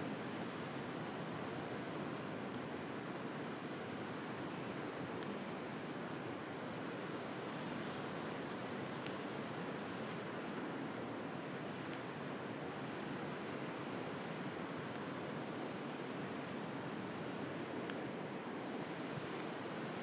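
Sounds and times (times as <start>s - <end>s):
campfire crackling: 0.2s - 20.0s.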